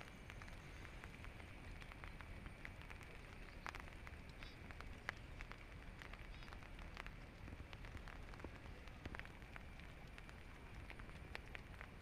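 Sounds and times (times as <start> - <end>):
drops ticking on leaves and water: 0.0 - 12.0
faint steady rain: 0.0 - 12.0.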